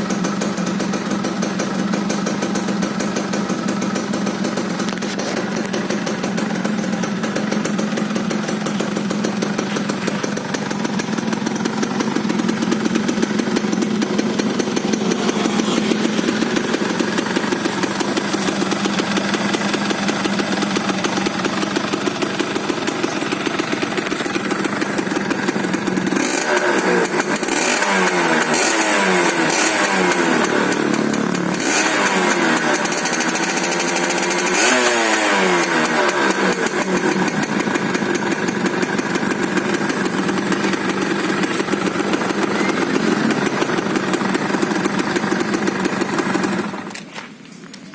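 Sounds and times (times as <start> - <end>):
two-stroke motorcycle engine revving: 0.0 - 47.1.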